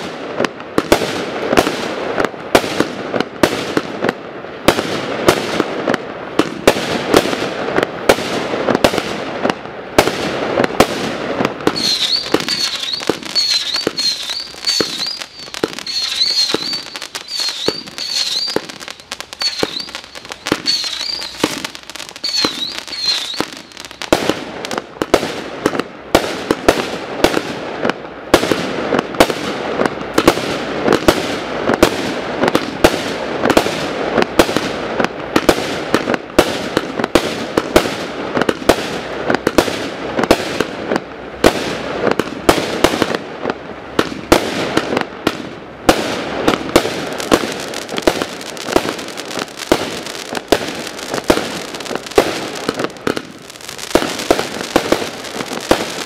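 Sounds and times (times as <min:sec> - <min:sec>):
fireworks barrage of shots and bursts: 0:00.0 - 0:56.0.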